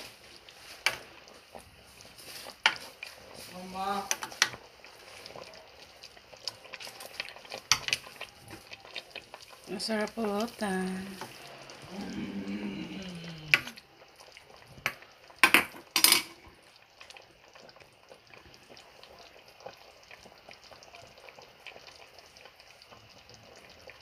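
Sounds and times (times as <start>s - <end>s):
stew bubbling: 0.0s - 24.0s.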